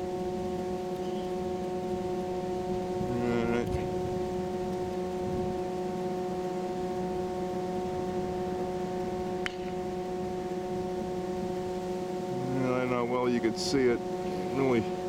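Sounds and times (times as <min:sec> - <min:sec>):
steady hum of fixed tones: 0:00.0 - 0:15.0.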